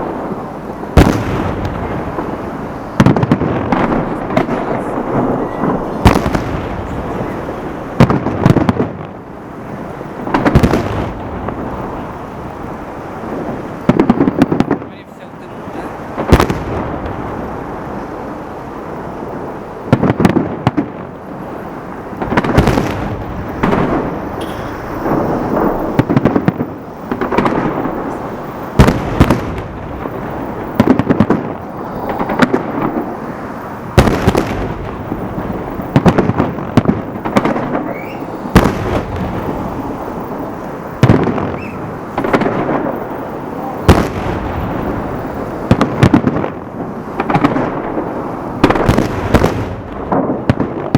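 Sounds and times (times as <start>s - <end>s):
firework crackling: 0.0s - 50.9s
firework shells bursting with bangs: 0.0s - 50.9s
rumbling echo: 0.0s - 50.9s.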